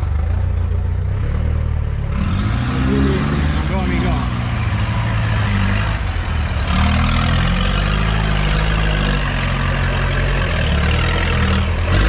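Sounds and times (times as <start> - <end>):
jeep engine at low revs: 0.0 - 12.0.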